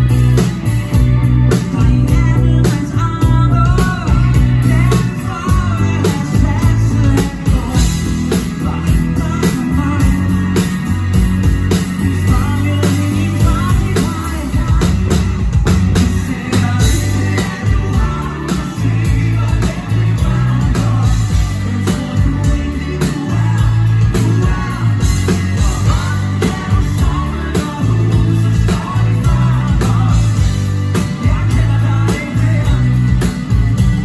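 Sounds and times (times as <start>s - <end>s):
drum beat: 0.0s - 34.0s
electric guitar: 0.0s - 34.0s
heavy bass line: 0.0s - 34.0s
keyboards: 0.0s - 34.0s
man singing: 1.3s - 11.1s, 11.7s - 33.8s.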